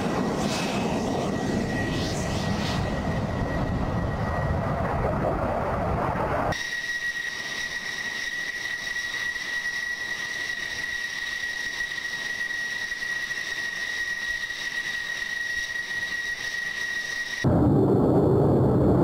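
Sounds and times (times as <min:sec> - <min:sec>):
jet engine turbine whine: 0:00.0 - 0:19.0.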